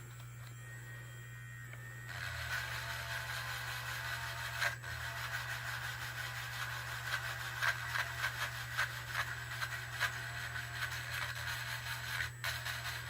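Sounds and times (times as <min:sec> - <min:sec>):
low motor hum: 0:00.0 - 0:13.0
sanding tool grinding: 0:02.1 - 0:13.0.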